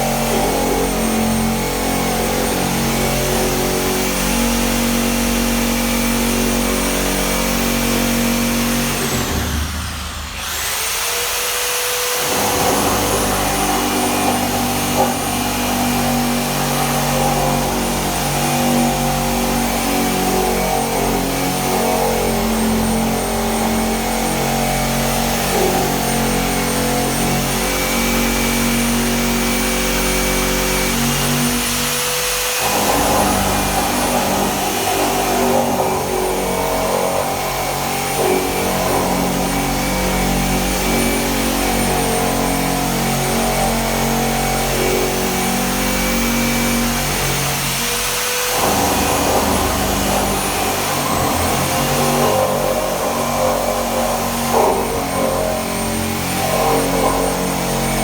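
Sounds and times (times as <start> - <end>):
power tool motor whining: 0.0 - 58.0.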